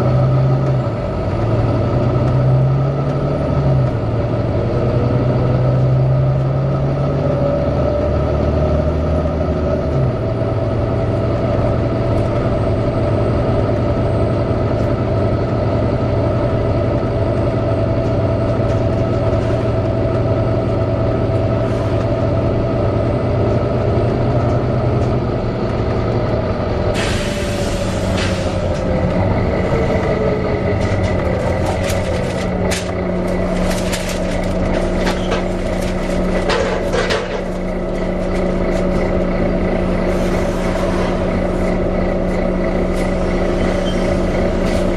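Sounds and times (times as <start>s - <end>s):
bus engine running: 0.0s - 44.9s.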